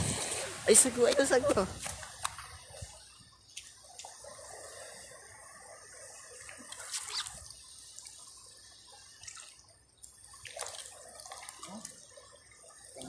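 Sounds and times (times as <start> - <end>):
crackly water splashes: 0.0 - 13.0
seawater trickling among rocks: 0.0 - 13.0.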